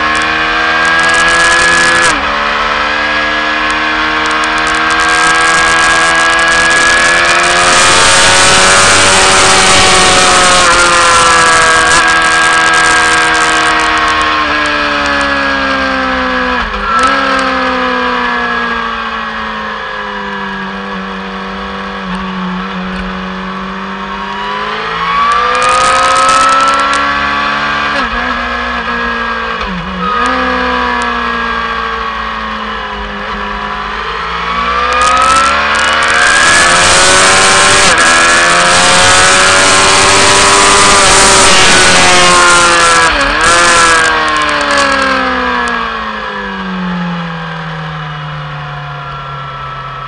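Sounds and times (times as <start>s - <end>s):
motorcycle engine at speed: 0.0s - 50.0s.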